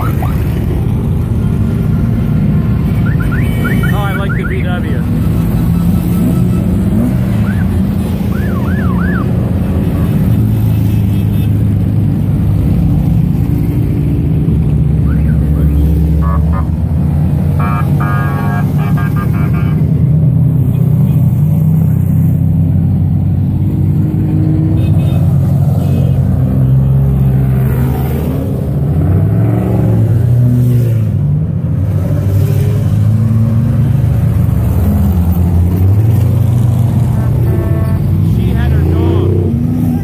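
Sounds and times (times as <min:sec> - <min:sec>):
off-road vehicle engines revving: 0:00.0 - 0:40.0.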